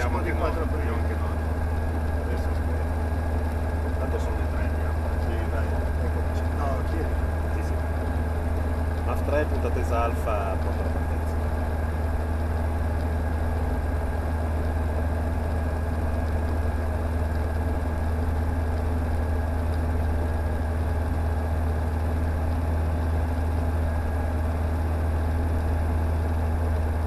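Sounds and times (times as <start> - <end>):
aircraft engine idling: 0.0 - 27.0.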